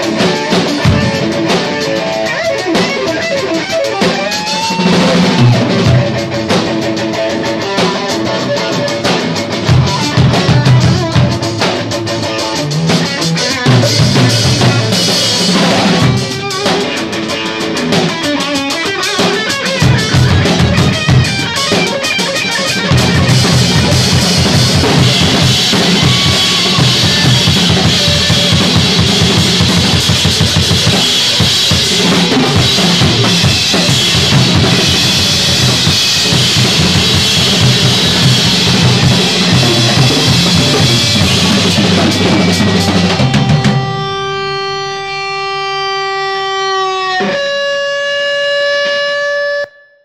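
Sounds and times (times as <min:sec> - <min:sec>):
drum kit played busily: 0:00.0 - 0:46.3
cymbals: 0:00.0 - 0:47.7
electric guitar: 0:00.0 - 0:49.8.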